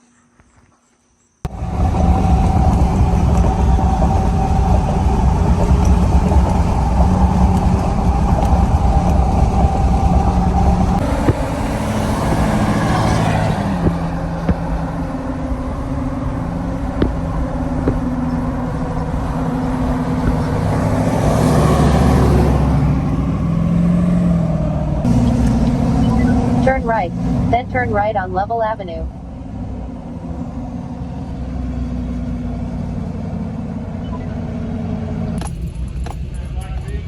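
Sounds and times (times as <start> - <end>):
road noise: 1.5 - 37.0
vehicle engine running: 1.5 - 37.0.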